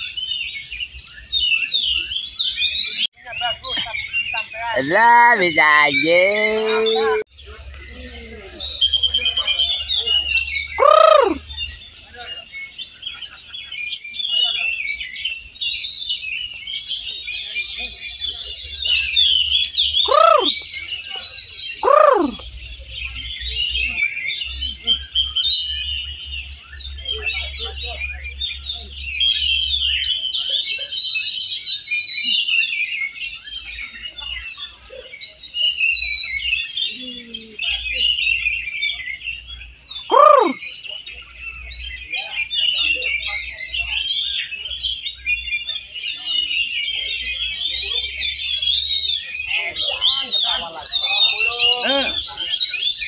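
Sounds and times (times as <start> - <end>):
many songbirds singing: 0.0 - 53.0.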